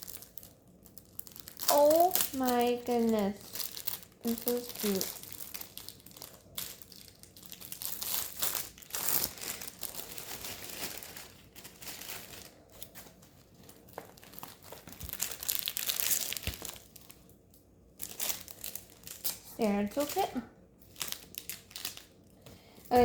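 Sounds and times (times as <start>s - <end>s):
packaging crinkling and rustling: 0.0s - 23.0s.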